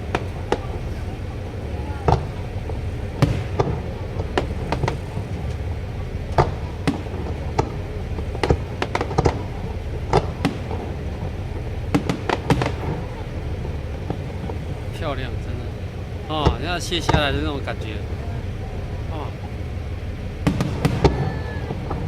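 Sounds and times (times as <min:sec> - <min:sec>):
fireworks bangs and cracks: 0:00.0 - 0:22.0
low rumble: 0:00.0 - 0:22.0.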